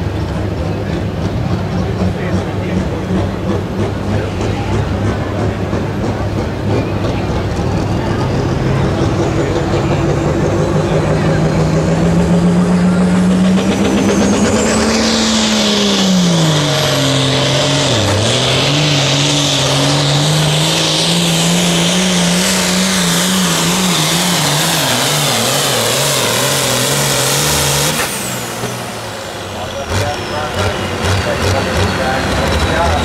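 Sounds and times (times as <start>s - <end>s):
tractor diesel engine at full throttle: 0.0s - 33.0s.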